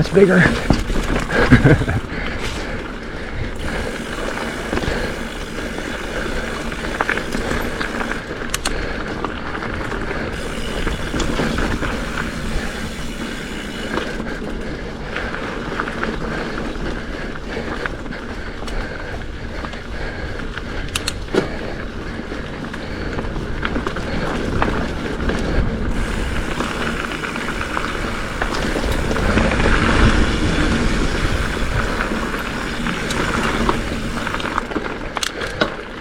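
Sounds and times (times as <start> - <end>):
bike rattling: 0.0 - 36.0
bike tyres rumbling on dirt trail: 0.0 - 36.0.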